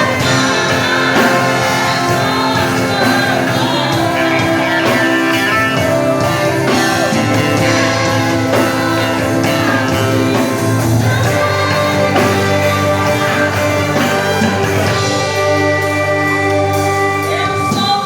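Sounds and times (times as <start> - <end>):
band playing a song: 0.0 - 18.0
guitar: 0.0 - 18.0
person singing: 0.0 - 18.0.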